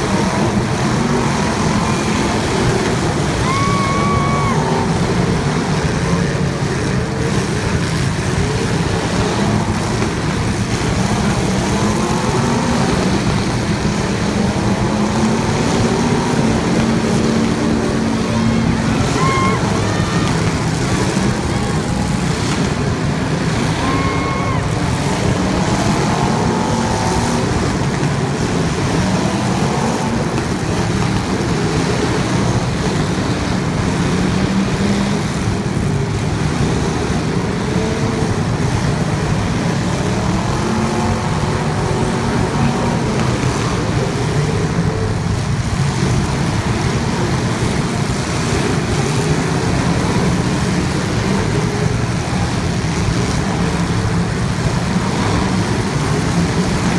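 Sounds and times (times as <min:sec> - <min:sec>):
loud constant noise: 0:00.0 - 0:56.9
race car engines revving: 0:00.0 - 0:56.9.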